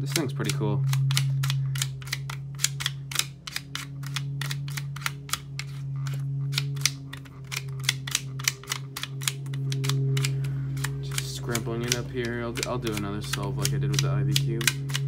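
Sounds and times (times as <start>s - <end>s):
steady low hum: 0.0s - 15.0s
sliding puzzle tiles clicking: 0.1s - 15.0s.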